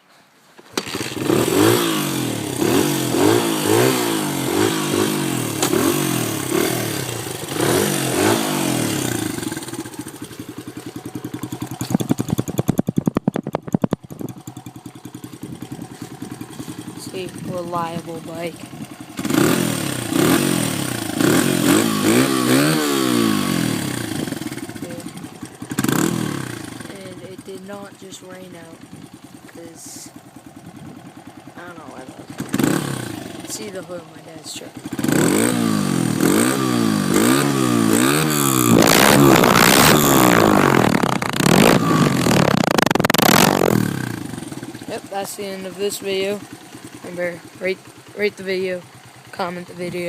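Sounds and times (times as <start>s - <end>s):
motorcycle engine revving: 0.6s - 50.0s.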